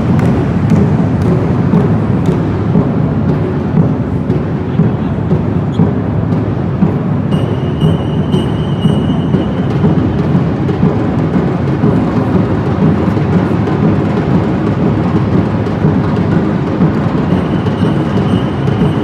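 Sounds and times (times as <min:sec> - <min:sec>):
drum band playing: 0:00.0 - 0:19.0.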